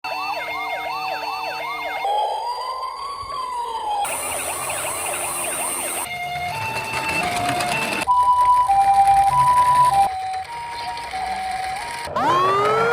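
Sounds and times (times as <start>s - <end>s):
toy electronic sirens wailing: 0.1s - 12.9s.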